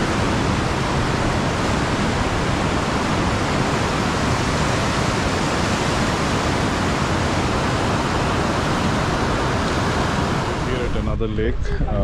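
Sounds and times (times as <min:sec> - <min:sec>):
river rapids rushing over rocks: 0:00.0 - 0:10.8.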